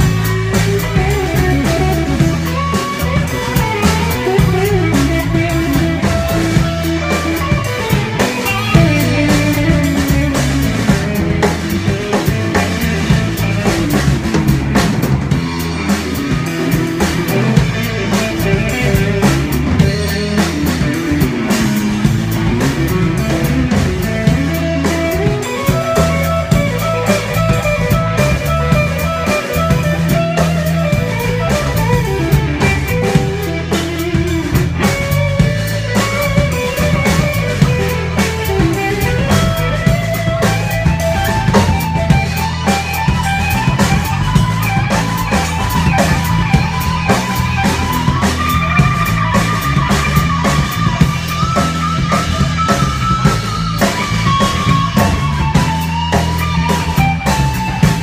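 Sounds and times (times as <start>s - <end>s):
drum kit: 0.0s - 58.0s
electric guitar lead: 0.0s - 58.0s.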